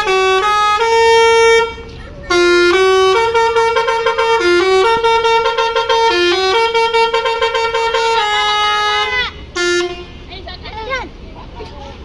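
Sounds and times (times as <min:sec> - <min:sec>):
musical bus horn playing tune: 0:00.0 - 0:10.4.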